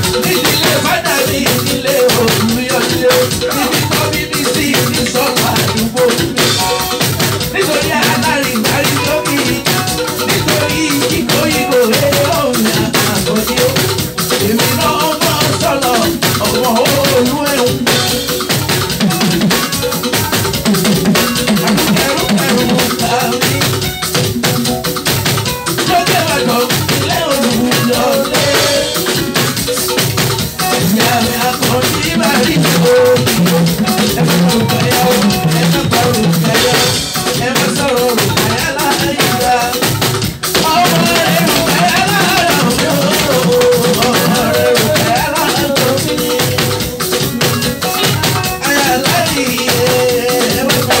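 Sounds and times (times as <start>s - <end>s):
man singing through microphone: 0.0s - 18.4s, 21.0s - 23.9s, 25.7s - 29.8s, 30.6s - 51.0s
drum kit: 0.0s - 51.0s
rattling hand percussion: 0.0s - 51.0s.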